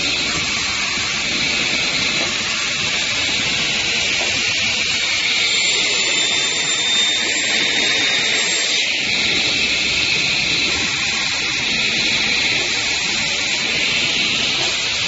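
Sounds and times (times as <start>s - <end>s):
circular saw rushing hiss: 0.0s - 15.0s.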